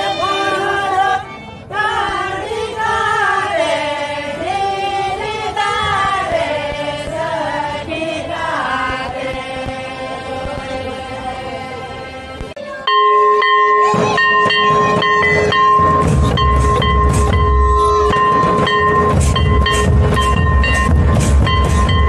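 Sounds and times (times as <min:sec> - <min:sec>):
voices singing together: 0:00.0 - 0:22.0.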